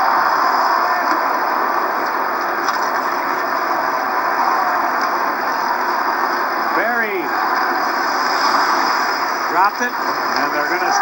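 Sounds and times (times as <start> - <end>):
arena crowd noise: 0.0 - 11.0.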